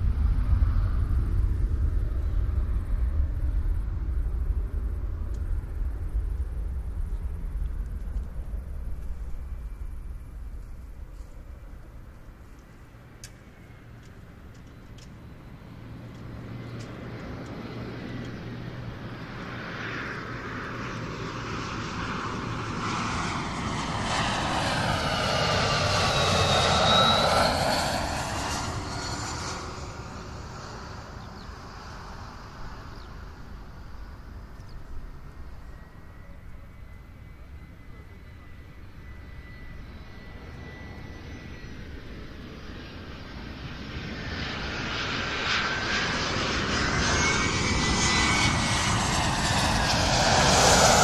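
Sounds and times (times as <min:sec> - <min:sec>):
airliner flying overhead: 0:00.0 - 0:51.0.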